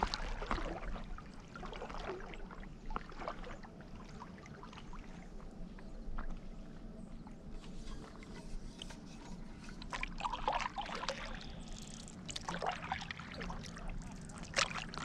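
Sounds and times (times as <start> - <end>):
paddle splashing in water: 0.0 - 5.5, 7.5 - 15.0.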